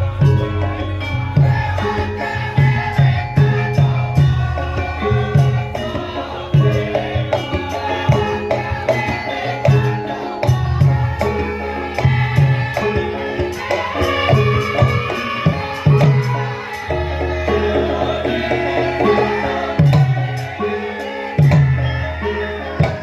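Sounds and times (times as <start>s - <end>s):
metallophones and gongs ringing: 0.0s - 23.0s.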